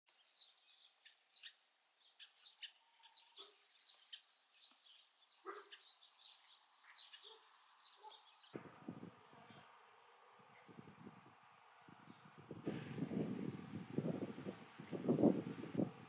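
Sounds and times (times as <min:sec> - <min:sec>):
faint songbirds chirping: 0:00.1 - 0:14.6.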